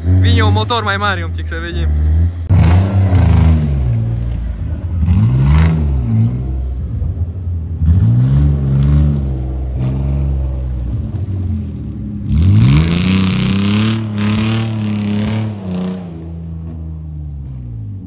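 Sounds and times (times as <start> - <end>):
car engine revving hard: 0.0 - 7.0, 7.8 - 11.3, 12.2 - 16.8.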